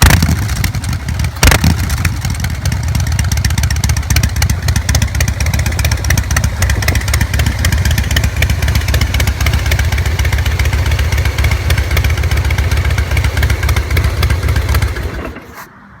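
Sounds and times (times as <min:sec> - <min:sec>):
motorcycle engine idling: 0:00.0 - 0:15.7.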